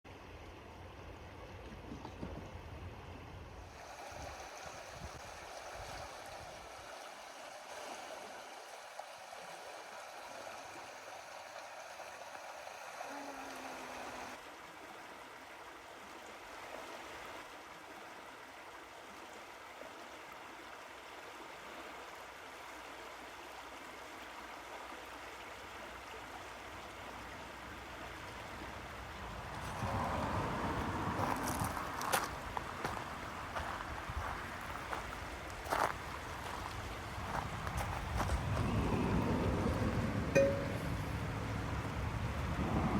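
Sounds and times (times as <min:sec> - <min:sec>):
running water: 0:03.6 - 0:42.9.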